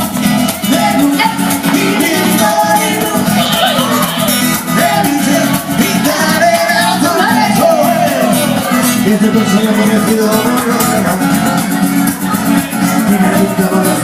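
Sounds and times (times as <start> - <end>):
guitar: 0.0 - 14.0
person singing: 0.5 - 14.0.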